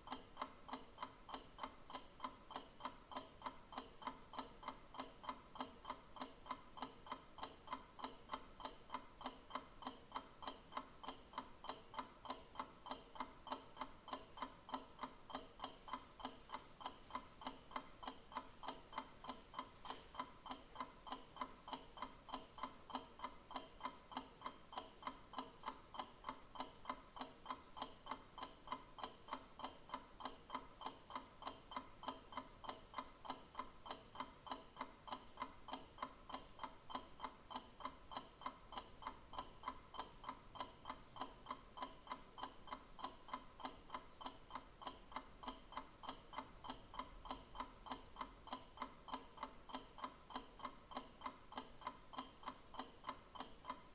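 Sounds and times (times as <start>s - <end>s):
clock ticking: 0.0s - 53.9s.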